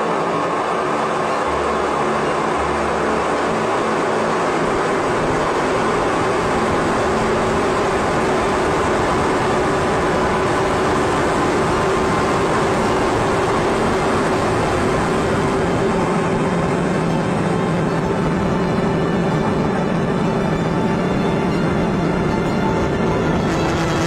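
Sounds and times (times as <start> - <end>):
rocket engine roar: 0.0 - 24.0.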